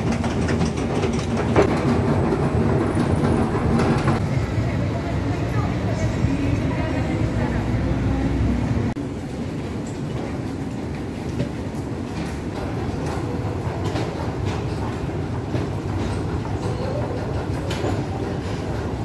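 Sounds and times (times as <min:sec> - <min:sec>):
low rumble of station concourse: 0:00.0 - 0:19.0
street traffic noise: 0:00.0 - 0:19.0.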